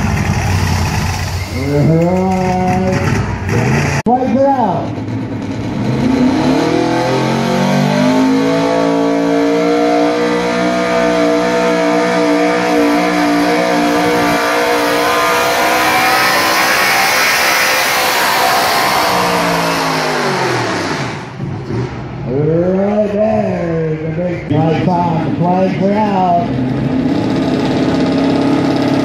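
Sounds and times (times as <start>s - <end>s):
truck engine at full throttle: 0.0s - 22.6s, 24.1s - 29.0s.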